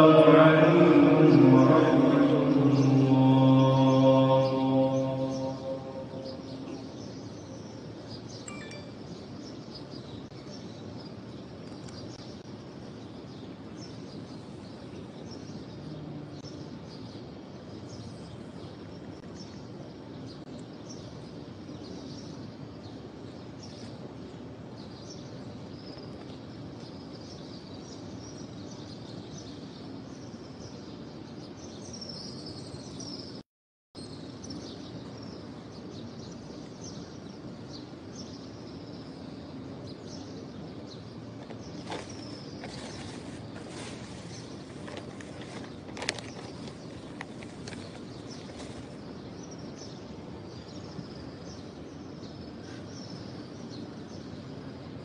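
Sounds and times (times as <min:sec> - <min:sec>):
low background hum: 0:00.0 - 0:33.4, 0:34.0 - 0:55.0
small birds chirping: 0:01.4 - 0:33.4, 0:34.0 - 0:55.0.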